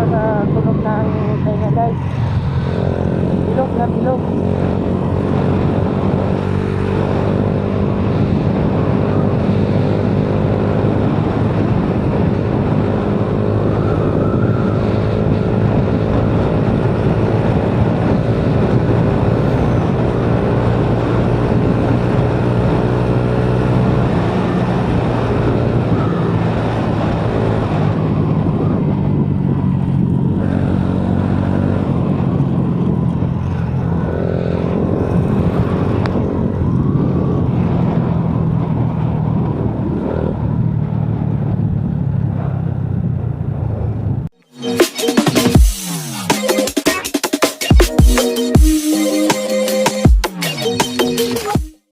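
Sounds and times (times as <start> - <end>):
motorcycle exhaust note: 0.0 - 44.5.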